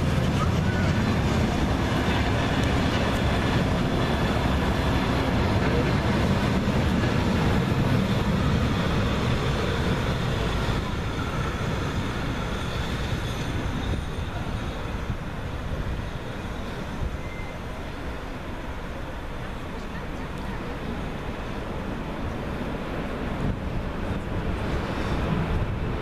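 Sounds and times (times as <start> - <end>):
steam locomotive working hard: 0.0 - 26.0
train coaches rumbling on rails: 0.0 - 26.0.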